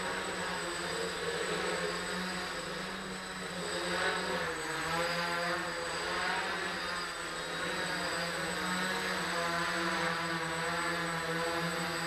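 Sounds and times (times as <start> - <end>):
quadcopter propellers buzzing: 0.0 - 12.0.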